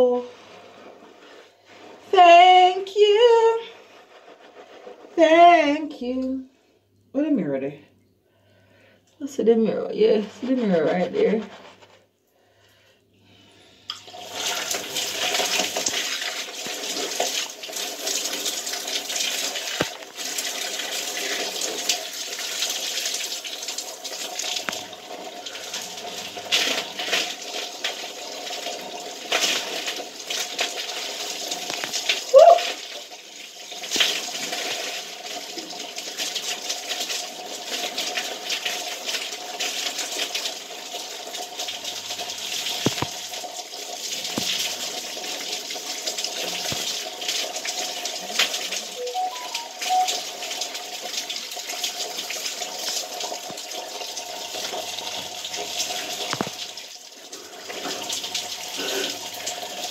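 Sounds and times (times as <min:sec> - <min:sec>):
shower water splashing: 0:00.0 - 0:05.5, 0:13.6 - 0:59.9.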